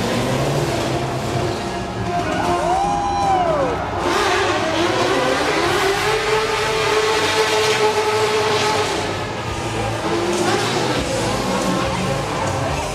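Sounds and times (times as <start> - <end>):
vehicle engine revving: 0.0 - 2.6, 3.8 - 12.9.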